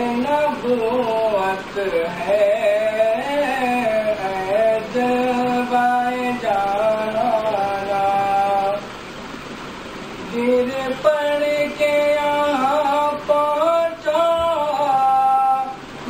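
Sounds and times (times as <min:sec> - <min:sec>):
man singing unaccompanied: 0:00.0 - 0:09.0, 0:10.2 - 0:16.0.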